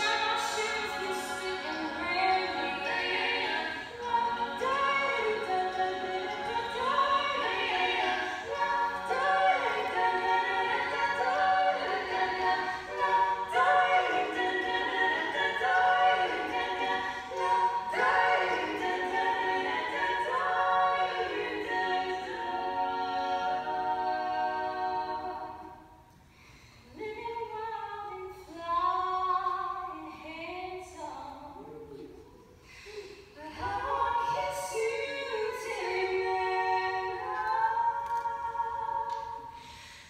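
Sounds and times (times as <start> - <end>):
a cappella harmony singing: 0.0 - 26.0, 26.8 - 40.0.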